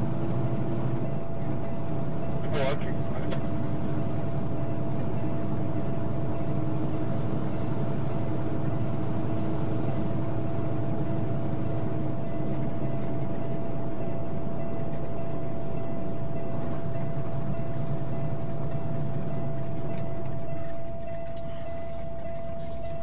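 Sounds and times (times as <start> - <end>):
truck engine and road hum: 0.0 - 23.0.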